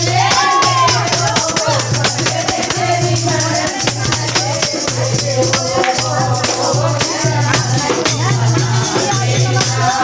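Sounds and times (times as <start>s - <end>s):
devotional singing: 0.0s - 10.0s
hand percussion: 0.0s - 10.0s.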